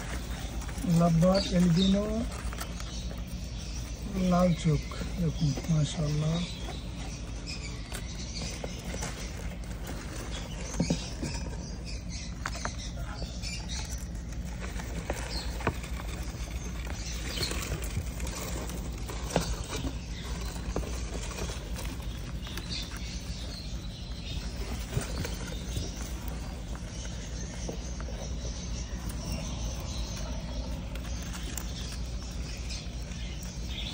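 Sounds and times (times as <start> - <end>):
chicks squeaking and chirping: 0.0 - 33.9
steady low hum: 0.0 - 33.9.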